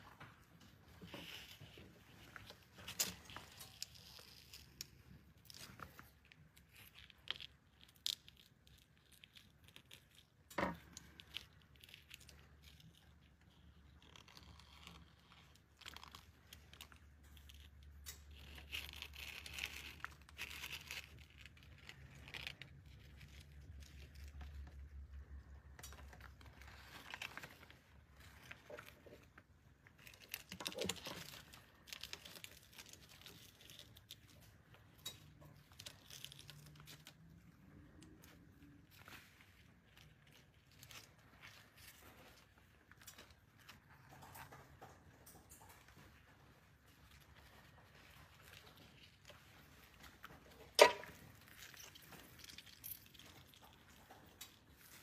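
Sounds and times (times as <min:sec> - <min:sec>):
foil crinkling and rustling: 0:00.8 - 0:55.0.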